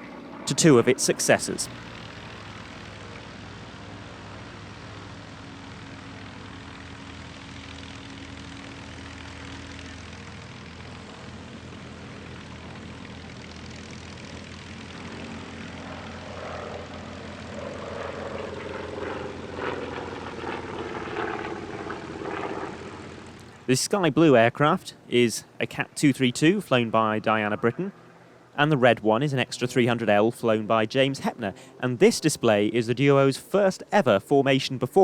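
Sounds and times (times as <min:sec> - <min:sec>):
propeller aircraft engines droning: 0:00.0 - 0:35.0.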